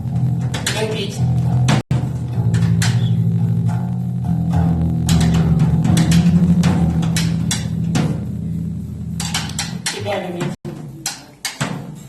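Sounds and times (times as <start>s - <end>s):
distorted electric guitars: 0.0s - 11.5s
drum hits: 0.0s - 12.0s.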